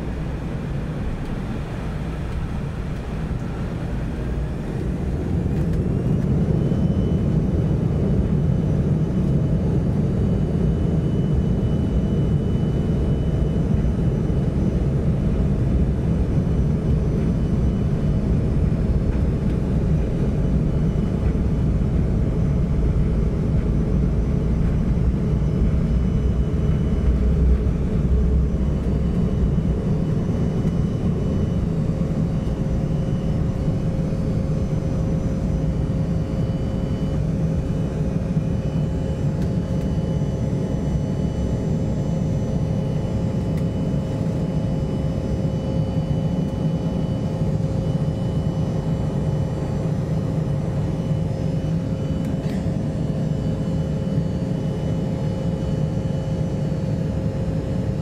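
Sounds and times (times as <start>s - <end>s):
jet engine drone with whine: 0.0s - 58.0s.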